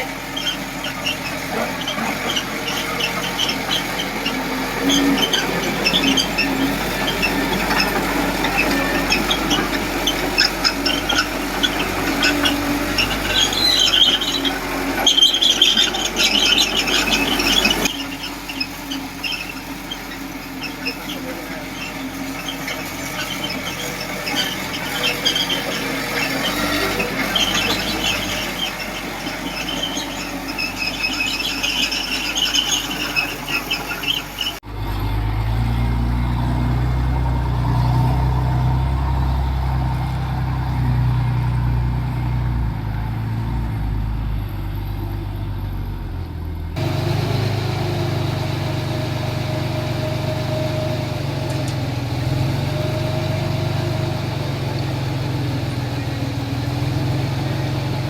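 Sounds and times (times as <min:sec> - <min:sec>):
bulldozer tracks squealing: 0:00.0 - 0:58.0
diesel engine running: 0:00.0 - 0:58.0.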